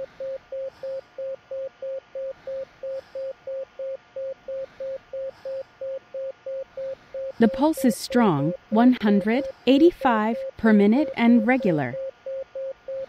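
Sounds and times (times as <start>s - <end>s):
pulse oximeter beeping: 0.0s - 13.0s.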